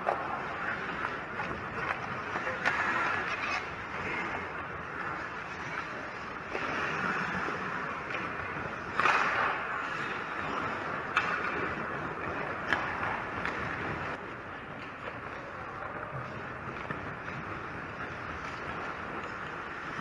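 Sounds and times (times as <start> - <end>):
skates scraping on ice: 0.0 - 20.0.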